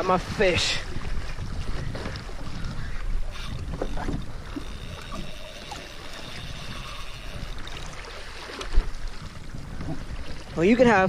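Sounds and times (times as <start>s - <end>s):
water lapping against plastic hull: 0.0s - 11.0s
wind on microphone: 0.0s - 11.0s.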